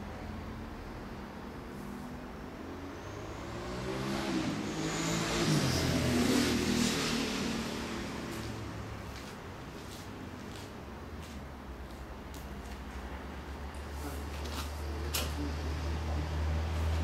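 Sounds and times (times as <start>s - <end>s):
vehicle passing by: 0.0s - 11.4s, 12.8s - 17.0s.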